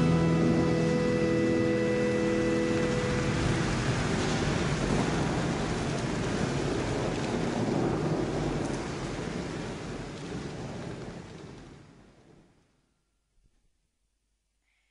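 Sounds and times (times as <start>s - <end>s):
falling rain hiss: 0.0s - 12.4s.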